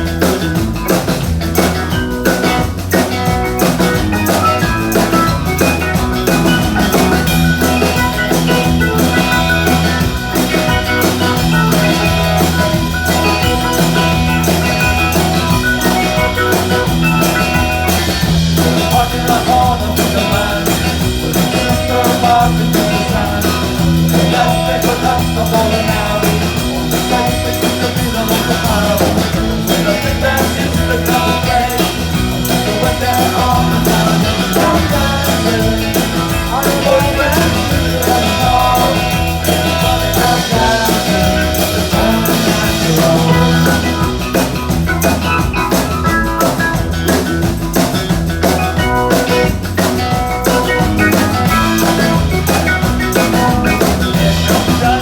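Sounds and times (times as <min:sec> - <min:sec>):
live band playing rock music: 0:00.0 - 0:55.0.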